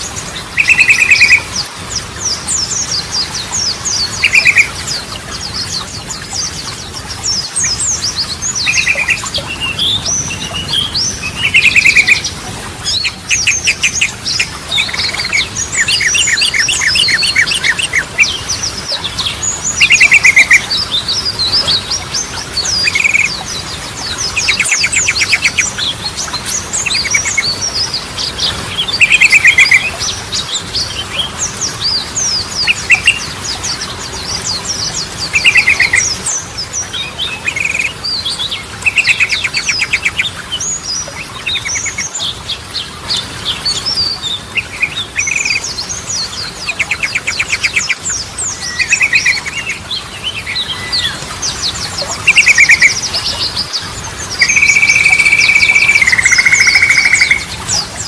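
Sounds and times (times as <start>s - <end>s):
bird singing with rattling trills: 0.0s - 58.0s.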